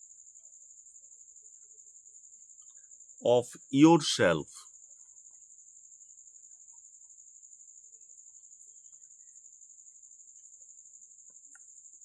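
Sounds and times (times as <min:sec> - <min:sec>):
high-pitched insect trill: 0:00.0 - 0:03.2, 0:04.7 - 0:12.0.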